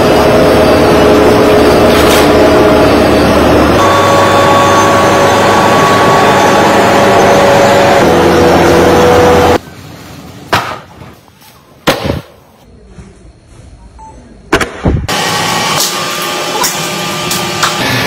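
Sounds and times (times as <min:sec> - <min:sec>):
factory machinery humming: 0:00.0 - 0:18.0.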